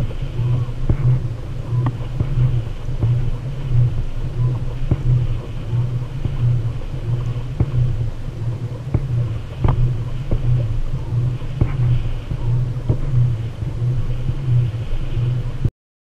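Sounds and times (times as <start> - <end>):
pulsing low rumble through hull: 0.0 - 15.7.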